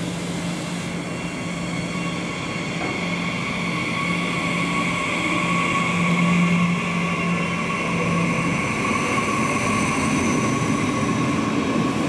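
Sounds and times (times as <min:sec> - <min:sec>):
electric train running: 0:00.4 - 0:12.0.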